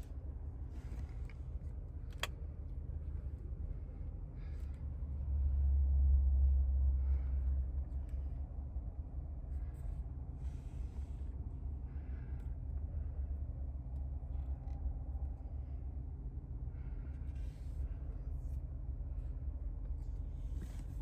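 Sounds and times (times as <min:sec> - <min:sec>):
car driving rumble from inside: 0:00.0 - 0:21.0.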